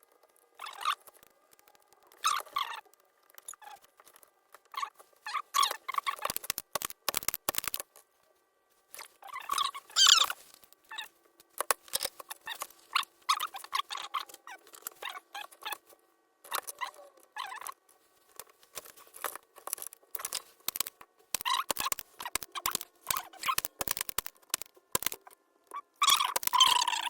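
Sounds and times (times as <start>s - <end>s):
scratching and clicking hand work: 0.0s - 8.3s, 8.9s - 27.0s.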